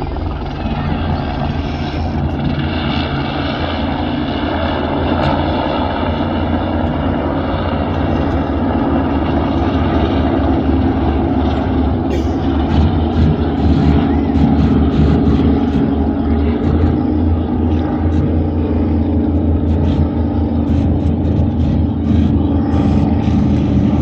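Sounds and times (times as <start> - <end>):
helicopter rotor and engine: 0.0 - 24.0
powerboat engines racing past: 0.0 - 24.0.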